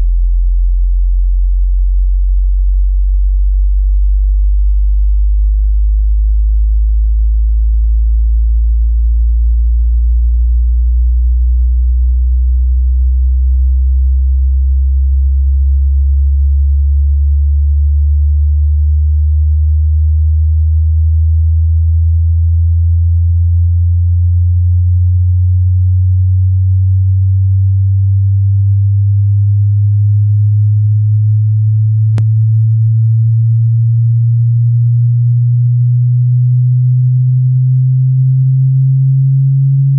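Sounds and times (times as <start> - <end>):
rising sine tone sweep: 0.0 - 39.9.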